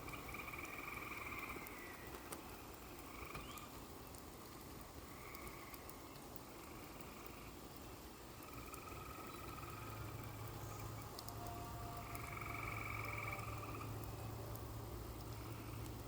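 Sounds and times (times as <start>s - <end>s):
frogs trilling: 0.0s - 2.2s, 2.8s - 3.8s, 5.0s - 16.0s
faint drip ticks: 0.0s - 16.0s
soft hiss of rain: 0.0s - 16.0s.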